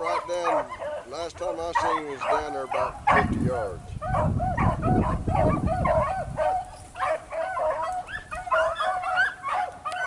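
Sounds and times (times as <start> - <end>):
dogs baying: 0.0 - 10.0.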